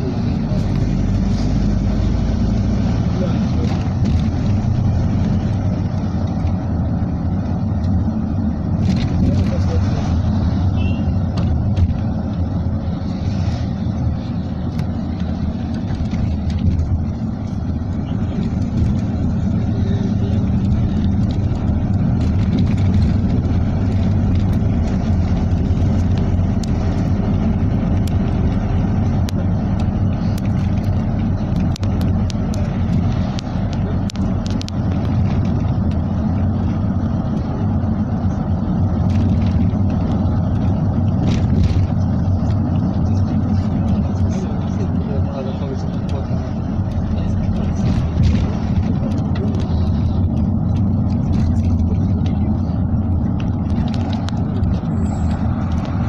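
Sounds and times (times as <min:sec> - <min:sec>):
vehicle rumbling in motion: 0:00.0 - 0:56.0.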